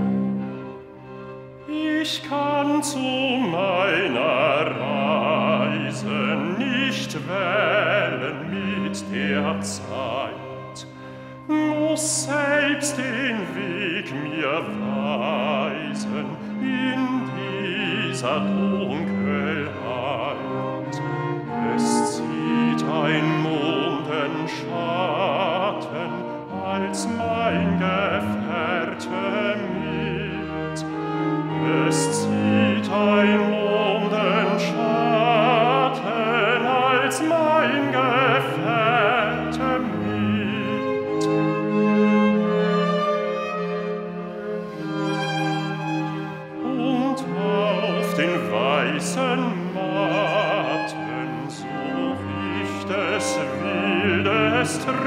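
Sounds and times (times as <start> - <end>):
cello long low notes: 0.0 - 55.0
violins with vibrato: 0.0 - 55.0.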